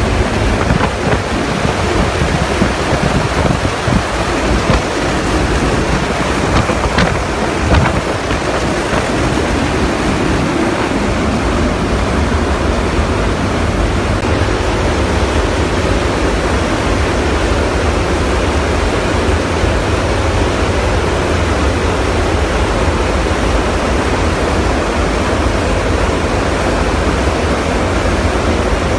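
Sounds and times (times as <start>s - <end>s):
aircraft engine noise: 0.0s - 28.9s
wind rushing: 0.0s - 28.9s.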